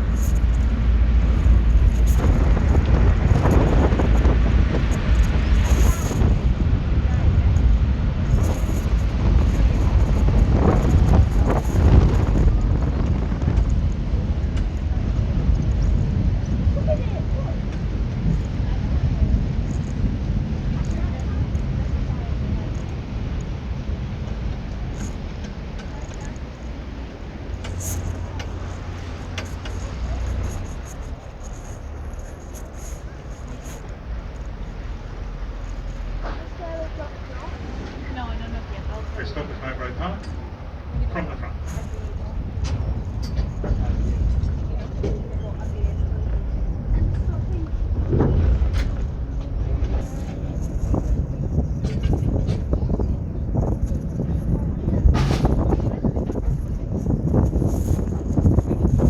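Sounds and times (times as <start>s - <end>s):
ferry engine rumble: 0.0s - 59.0s
wind buffeting microphone: 0.0s - 59.0s.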